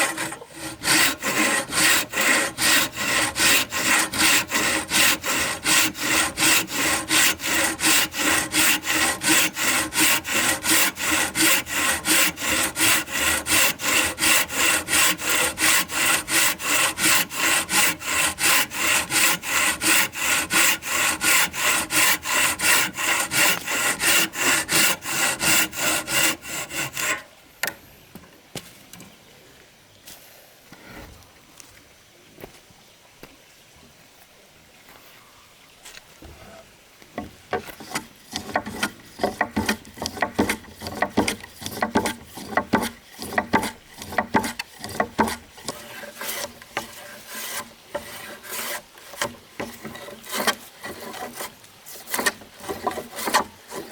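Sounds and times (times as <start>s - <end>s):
hand saw cutting wood: 0.0s - 27.3s, 37.2s - 53.9s.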